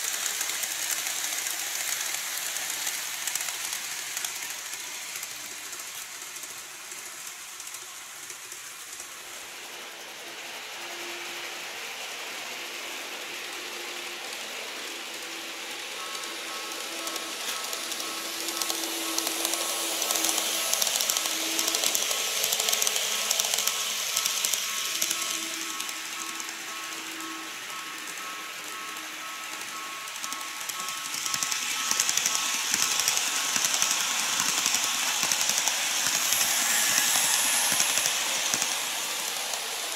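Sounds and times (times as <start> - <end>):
model train motor whine: 0.0 - 39.9
model train wheels rattling: 0.0 - 39.9.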